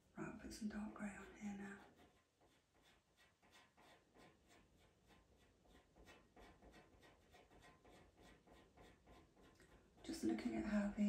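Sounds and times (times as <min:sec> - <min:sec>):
pencil scratching on paper: 0:01.0 - 0:10.8.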